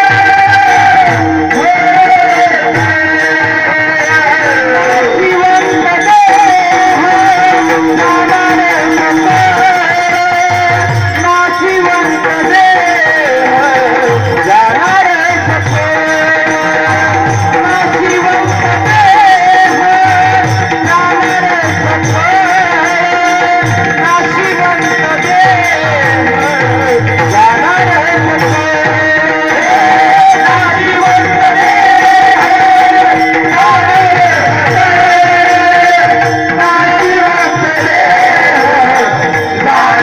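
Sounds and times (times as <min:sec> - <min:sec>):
hand drum beat: 0:00.0 - 0:40.0
person singing devotional song: 0:00.0 - 0:40.0.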